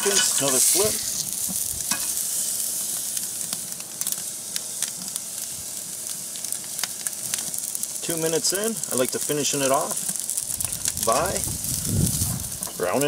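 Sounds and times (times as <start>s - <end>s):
steak sizzling on grill: 0.0s - 13.0s.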